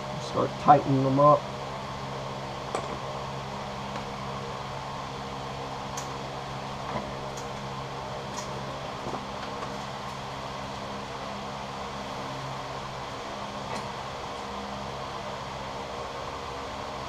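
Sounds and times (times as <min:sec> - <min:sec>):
motor hum: 0:00.0 - 0:17.0.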